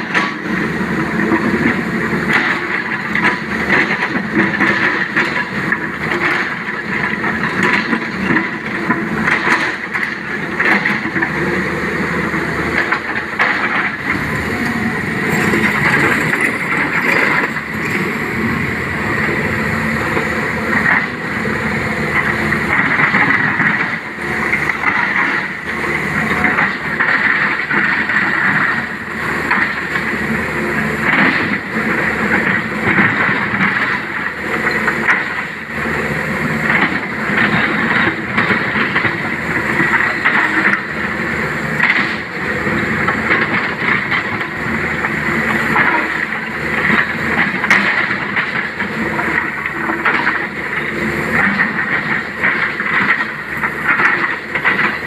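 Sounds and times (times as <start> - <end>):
excavator engine and hydraulics whining: 0.0 - 55.0.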